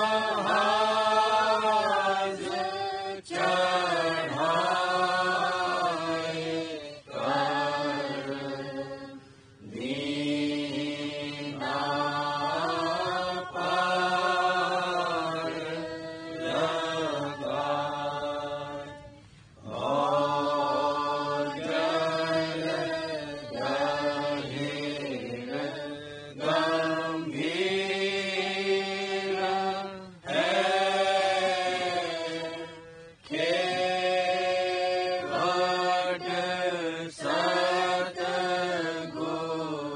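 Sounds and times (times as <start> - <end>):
person chanting verses: 0.0 - 39.9.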